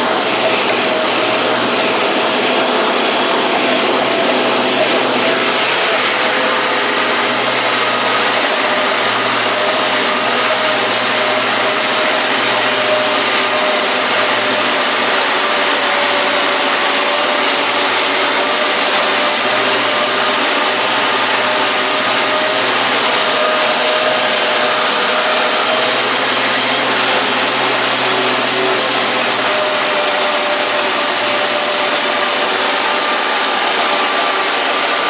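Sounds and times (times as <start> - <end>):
steady whine: 0.0 - 35.0
tractor diesel engine running: 0.0 - 35.0.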